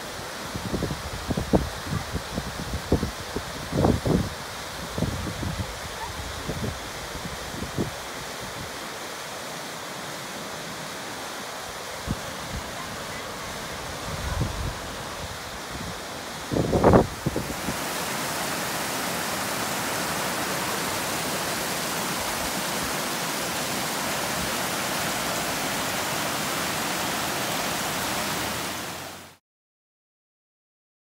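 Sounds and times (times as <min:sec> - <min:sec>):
creek rushing over rocks: 0:00.0 - 0:29.4.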